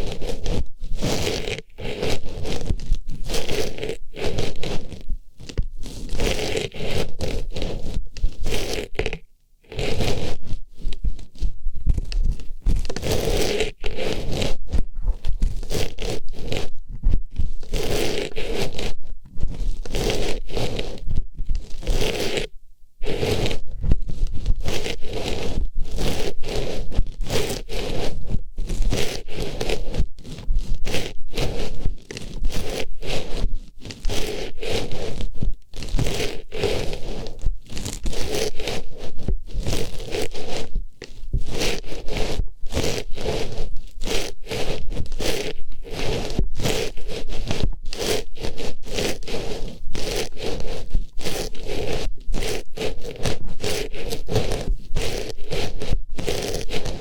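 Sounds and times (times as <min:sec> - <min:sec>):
scratchy rustling on microphone: 0:00.0 - 0:57.0.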